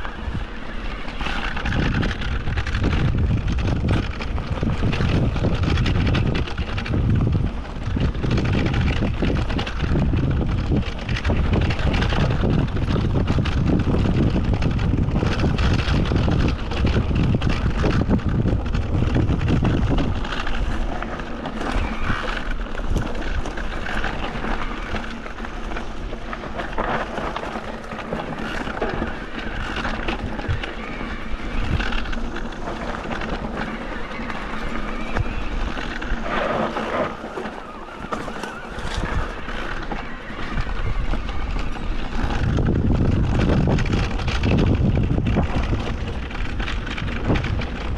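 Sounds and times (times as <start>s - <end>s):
bike knocking and rattling: 0.0s - 47.9s
tyres rolling over rough ground: 0.0s - 47.9s
wind buffeting microphone: 0.0s - 47.9s.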